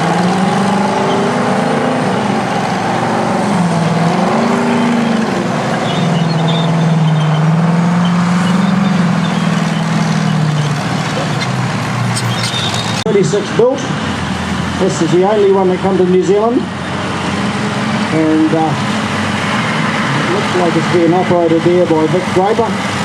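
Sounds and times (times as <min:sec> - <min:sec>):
heavy diesel bulldozer engine: 0:00.0 - 0:23.0.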